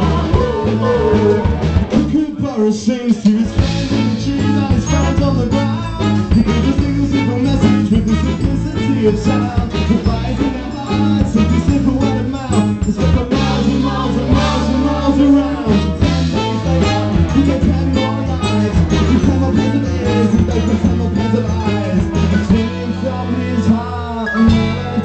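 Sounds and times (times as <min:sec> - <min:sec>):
trumpet: 0:00.0 - 0:02.2, 0:03.6 - 0:25.0
electric guitar: 0:00.0 - 0:02.4, 0:03.3 - 0:25.0
bass line: 0:00.0 - 0:25.0
drums: 0:00.0 - 0:25.0
keyboards: 0:00.0 - 0:25.0.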